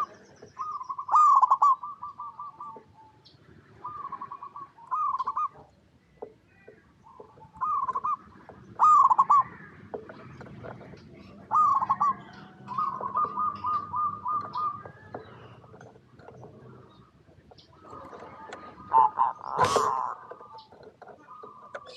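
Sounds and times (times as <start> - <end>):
dove cooing: 0.0 - 5.7, 7.0 - 21.9.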